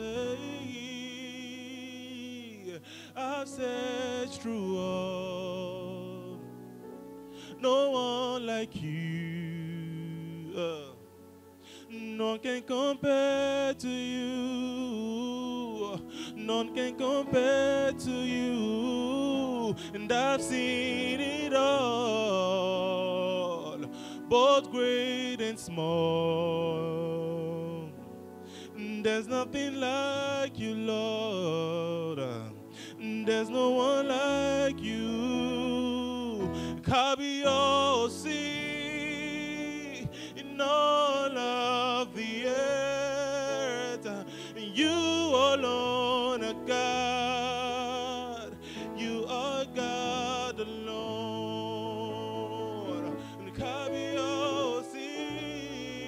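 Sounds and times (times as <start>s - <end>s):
man singing gospel song: 0.0s - 6.6s, 7.3s - 56.0s
keyboard chords: 0.0s - 56.0s.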